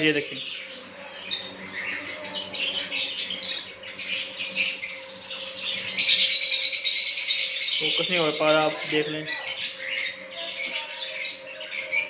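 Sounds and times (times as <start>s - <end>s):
faint hum: 0.0s - 12.0s
small parrots chirping and squawking: 0.0s - 12.0s.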